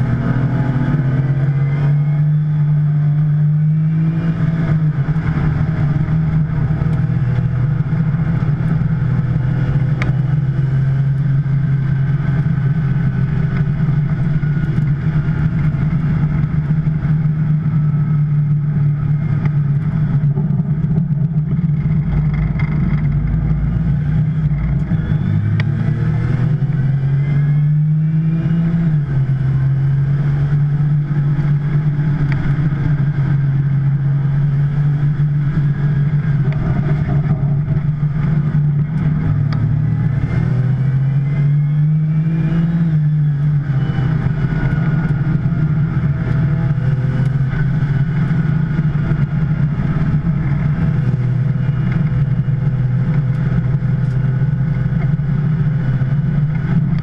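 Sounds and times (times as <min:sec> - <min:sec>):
car engine at speed: 0:00.0 - 0:57.0.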